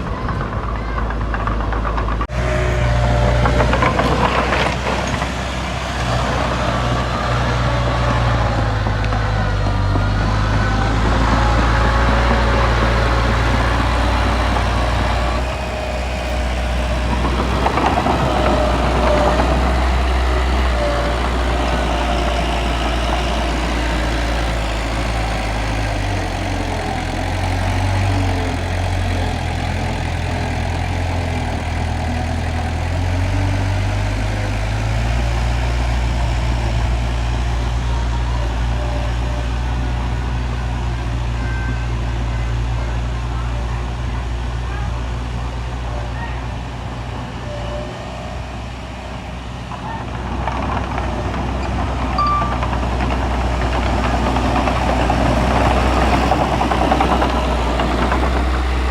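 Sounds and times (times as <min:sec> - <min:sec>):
heavy machinery diesel engine: 0:00.0 - 0:58.9.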